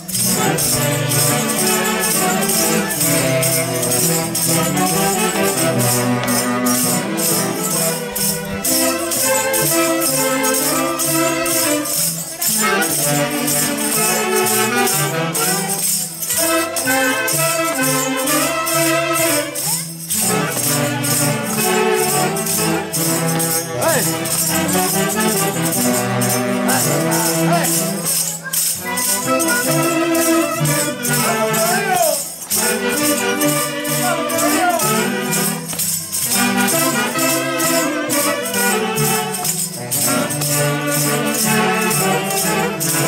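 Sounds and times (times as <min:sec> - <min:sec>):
folk orchestra dance tune: 0:00.0 - 0:43.0.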